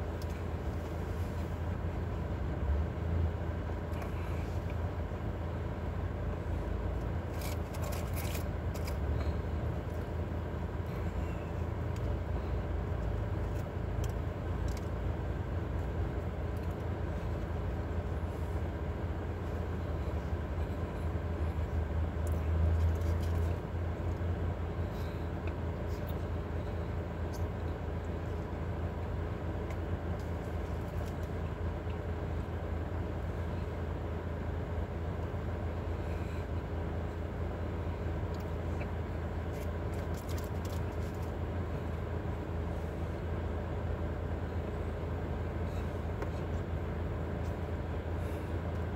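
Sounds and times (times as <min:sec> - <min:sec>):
car cabin rumble and hum: 0:00.0 - 0:48.9.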